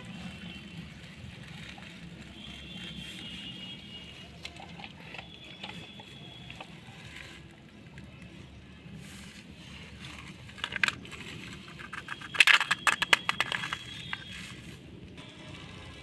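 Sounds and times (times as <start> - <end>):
plastic toys clicking and rattling: 0.2 - 8.4, 9.9 - 14.8.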